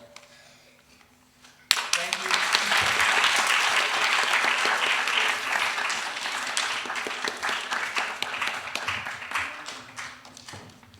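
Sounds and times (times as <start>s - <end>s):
audience applauding: 1.7s - 10.9s.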